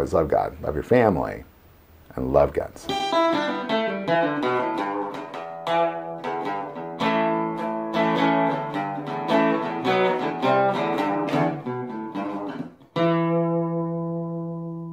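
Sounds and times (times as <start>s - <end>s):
plucked guitar notes and chords: 2.8s - 14.9s.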